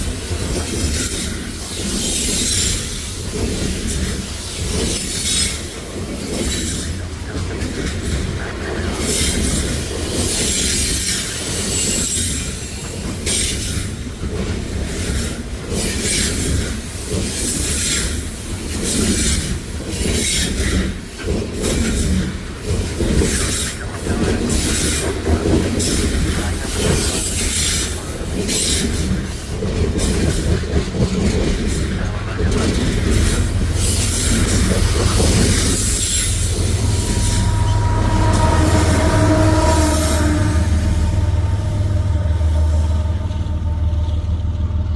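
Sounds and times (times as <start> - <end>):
high-pitched wheel noise on rails: 0.0 - 44.9
train cars rumbling: 0.0 - 44.9.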